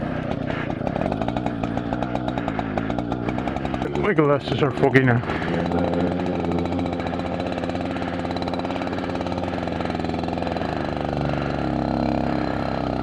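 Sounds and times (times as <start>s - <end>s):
two-stroke moped engine idling: 0.0s - 13.0s.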